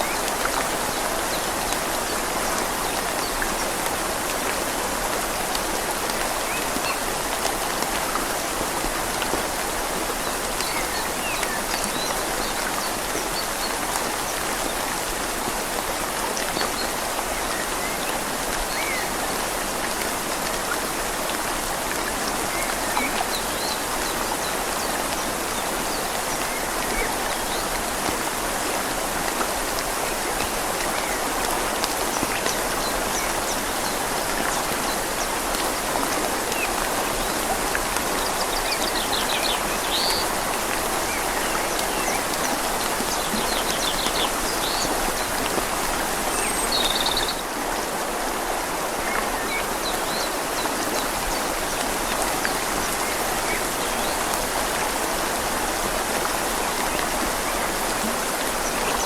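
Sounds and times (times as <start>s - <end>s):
flowing river rushing: 0.0s - 59.0s
rain falling on leaves: 0.0s - 59.0s.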